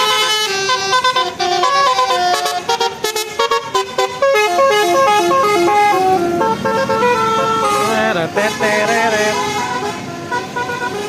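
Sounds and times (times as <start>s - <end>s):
multi-tone musical bus horn: 0.0s - 11.0s.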